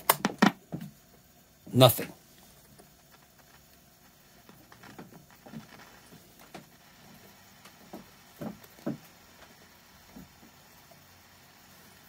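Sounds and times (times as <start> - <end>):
radio static crackles and ticks: 2.0 - 12.0.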